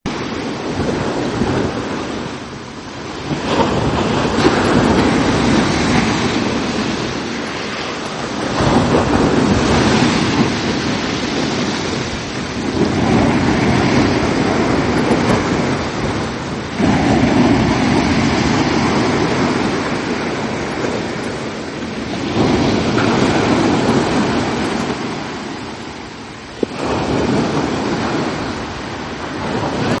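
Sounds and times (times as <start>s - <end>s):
ocean waves breaking on beach: 0.0s - 30.0s.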